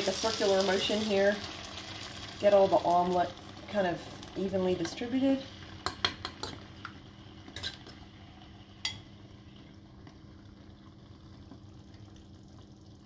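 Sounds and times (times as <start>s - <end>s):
faint sizzle of frying: 0.0s - 13.0s.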